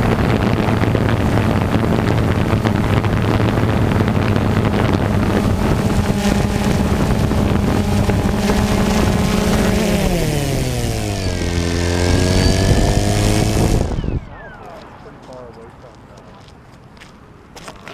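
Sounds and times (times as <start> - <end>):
vehicle engine running: 0.0 - 14.9
wind buffeting microphone: 0.0 - 15.9.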